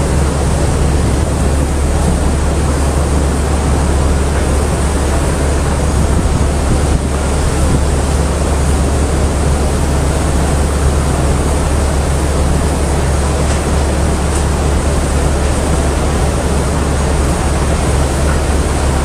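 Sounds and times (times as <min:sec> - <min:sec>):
high-pressure water jets spraying: 0:00.0 - 0:19.0
low machinery drone: 0:00.0 - 0:19.0.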